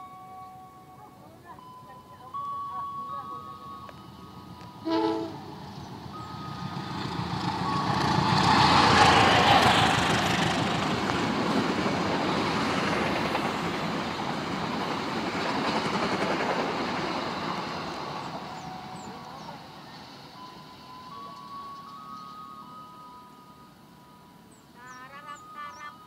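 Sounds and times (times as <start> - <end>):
passenger train passing: 0.0 - 26.0.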